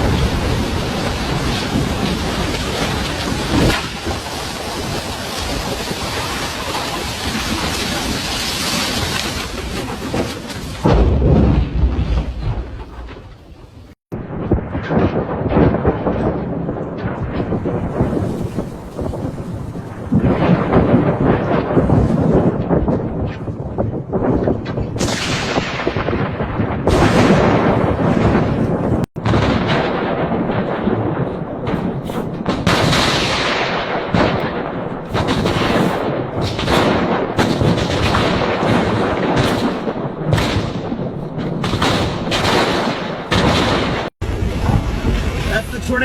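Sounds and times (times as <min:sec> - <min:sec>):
rushing storm noise: 0:00.0 - 0:46.0
thunder cracks and rumbles: 0:00.0 - 0:46.0.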